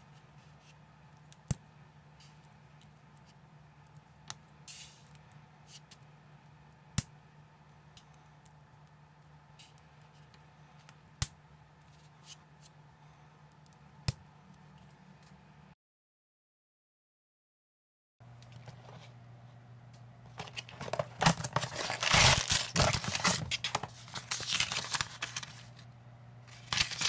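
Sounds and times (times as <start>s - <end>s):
faint steady hum: 0.0s - 15.8s, 18.2s - 27.0s.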